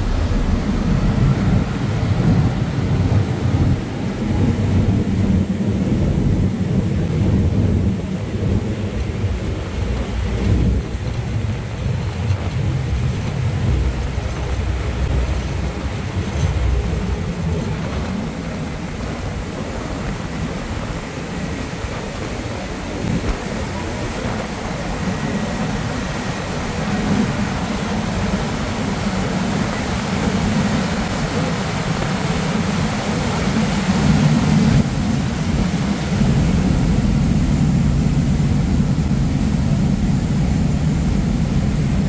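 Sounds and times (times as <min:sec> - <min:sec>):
churning wake: 0:00.0 - 0:42.0
ferry engine drone: 0:00.0 - 0:42.0
wind buffeting microphone: 0:00.0 - 0:42.0.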